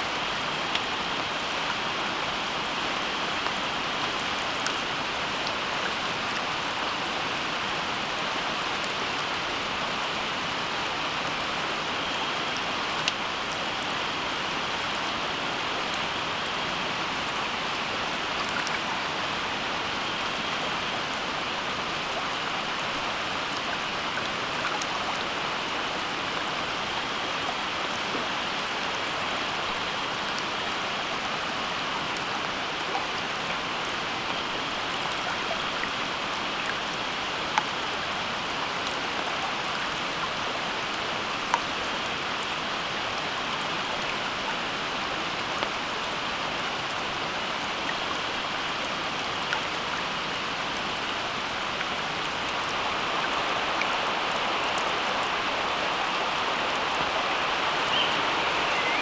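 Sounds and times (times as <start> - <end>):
steady water hiss: 0.0 - 59.0.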